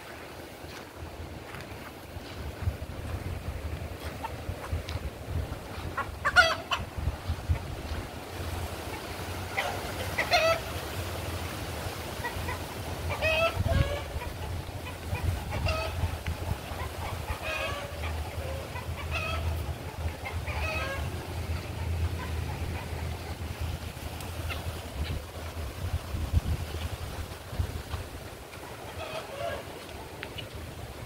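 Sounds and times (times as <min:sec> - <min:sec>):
chickens clucking and squawking: 0:00.7 - 0:31.0.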